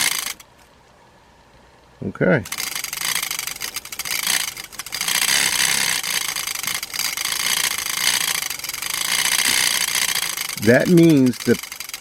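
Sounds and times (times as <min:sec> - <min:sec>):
small motor rattling buzz: 0:00.0 - 0:00.5, 0:02.4 - 0:12.0.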